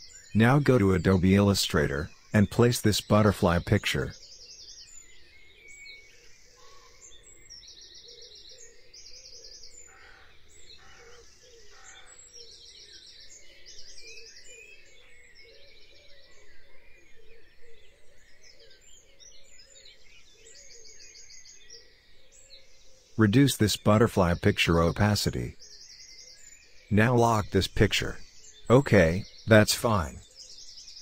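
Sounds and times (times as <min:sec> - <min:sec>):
birds chirping and trilling: 0:00.0 - 0:31.0.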